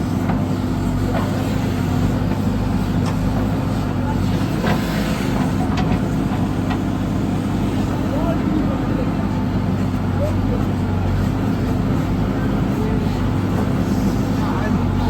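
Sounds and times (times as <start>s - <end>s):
diesel tractor engine droning: 0.0s - 15.0s.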